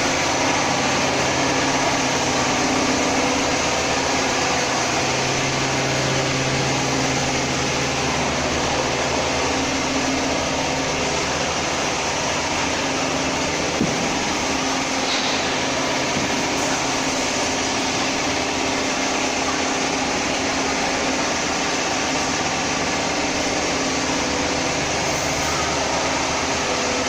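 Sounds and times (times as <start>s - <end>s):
vacuum frying machine whirring: 0.0s - 27.0s.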